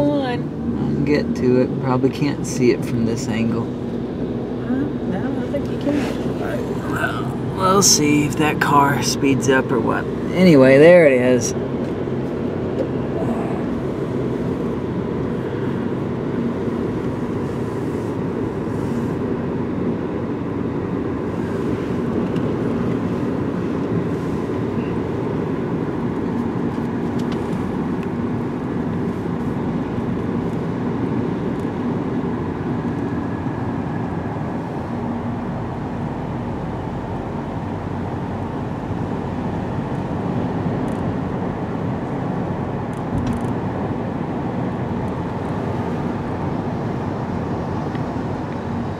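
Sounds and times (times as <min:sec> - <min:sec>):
car engine cruising: 0:00.0 - 0:48.9.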